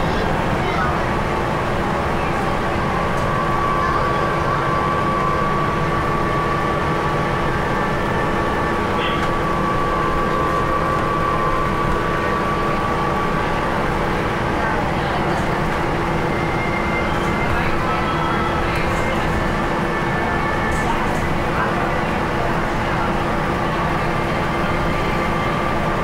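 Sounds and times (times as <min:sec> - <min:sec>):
bus engine and road noise: 0:00.0 - 0:26.0.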